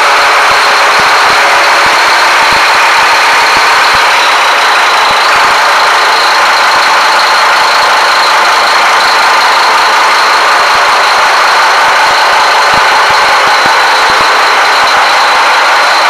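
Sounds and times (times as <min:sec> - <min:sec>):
high-pitched whine: 0:00.0 - 0:16.0
marine diesel engines running: 0:00.0 - 0:16.0.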